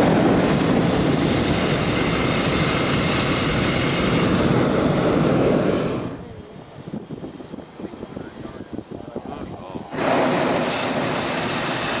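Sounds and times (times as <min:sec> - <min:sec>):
propane burner blast: 0:00.0 - 0:12.0.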